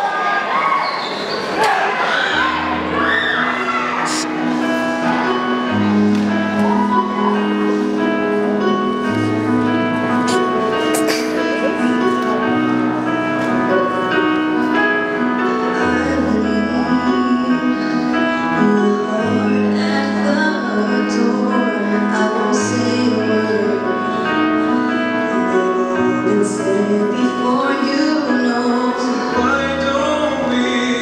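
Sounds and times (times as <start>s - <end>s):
slow song over loudspeakers: 1.6s - 31.0s.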